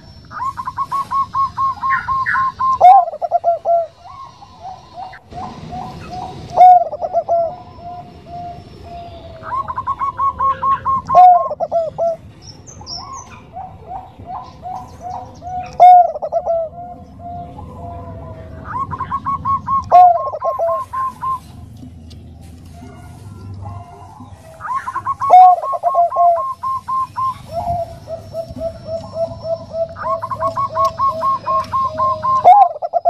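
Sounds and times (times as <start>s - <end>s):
dove cooing: 0.0s - 21.7s, 22.7s - 33.0s.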